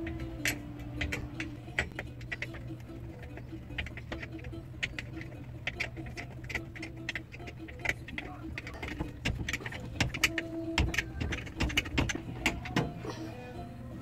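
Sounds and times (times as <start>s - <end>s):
wrench clicking on bolts: 0.0s - 13.0s
steady low hum: 0.0s - 14.0s.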